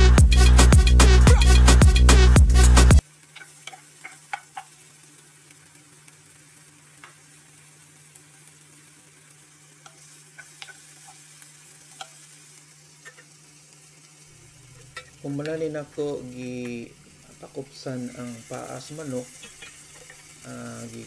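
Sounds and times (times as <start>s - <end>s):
onion frying in oil: 1.4s - 21.0s.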